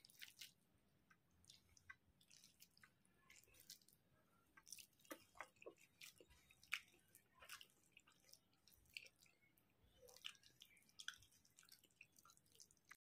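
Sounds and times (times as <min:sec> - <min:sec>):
chewing clicks and smacks: 0:00.0 - 0:13.0
fingers squishing rice on plate: 0:00.0 - 0:13.0.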